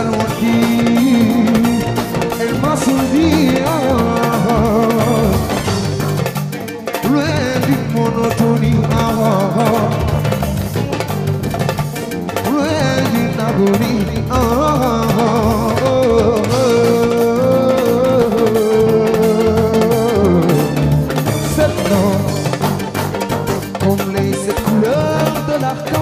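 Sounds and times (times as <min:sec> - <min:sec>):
electric guitar: 0:00.0 - 0:26.0
hand drums: 0:00.0 - 0:26.0
keyboard: 0:00.0 - 0:26.0
person singing: 0:00.0 - 0:26.0.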